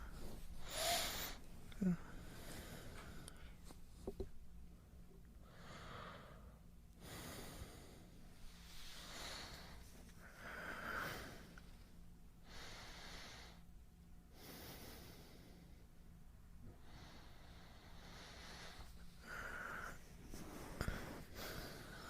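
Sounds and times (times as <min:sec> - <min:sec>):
man breathing slowly: 0:00.0 - 0:03.7, 0:05.4 - 0:13.7, 0:14.3 - 0:16.0, 0:16.6 - 0:22.0.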